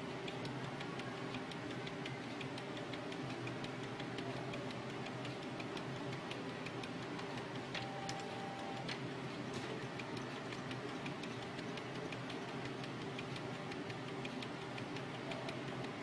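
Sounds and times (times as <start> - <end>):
steady mechanical ticking: 0.0 - 16.0.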